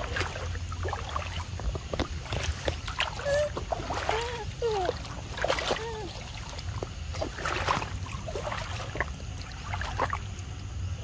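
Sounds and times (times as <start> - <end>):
splashes in shallow water: 0.0 - 10.9.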